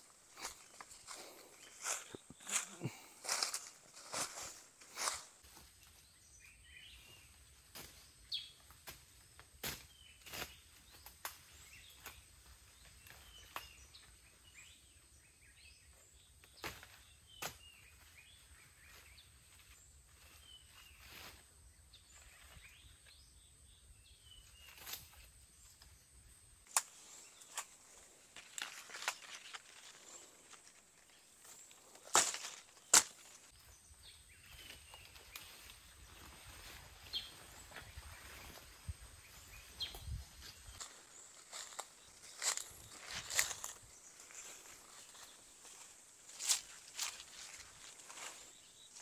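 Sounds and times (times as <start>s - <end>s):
faint bird chirps: 0.0s - 49.0s.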